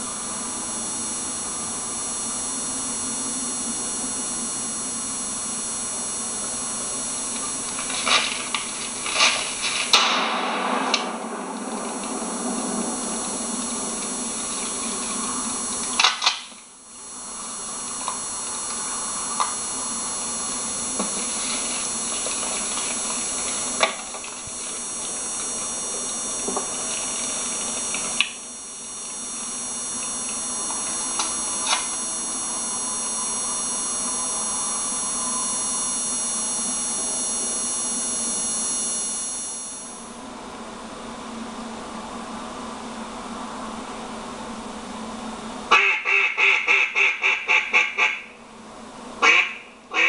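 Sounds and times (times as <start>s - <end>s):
thin high whine: 0.0s - 48.5s
mechanical hum: 0.0s - 50.0s.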